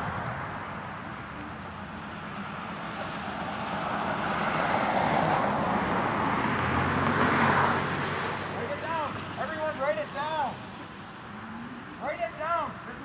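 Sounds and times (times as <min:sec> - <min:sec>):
car driving past: 0:00.0 - 0:13.0.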